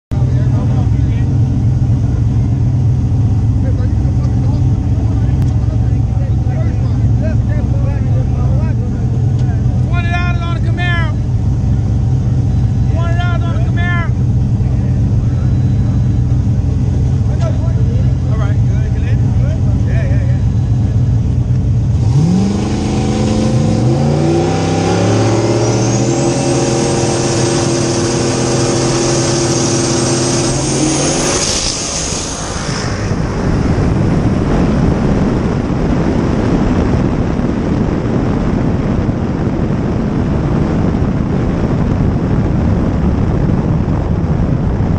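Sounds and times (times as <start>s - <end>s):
drag car engines revving: 0.1s - 44.9s
wind rush on microphone: 0.1s - 44.9s.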